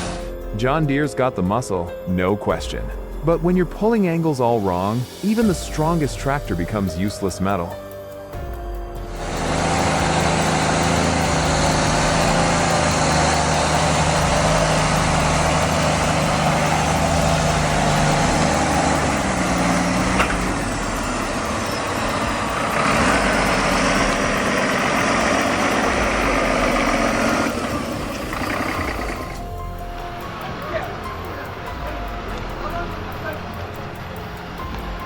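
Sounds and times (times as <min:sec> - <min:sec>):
tractor engine running: 0:00.0 - 0:01.5, 0:08.3 - 0:35.0.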